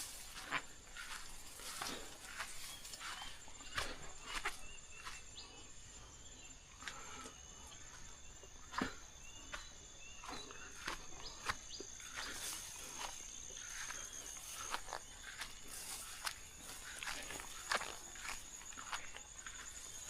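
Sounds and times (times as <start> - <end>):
insects droning: 0.0 - 20.0
small birds chirping: 0.0 - 20.0.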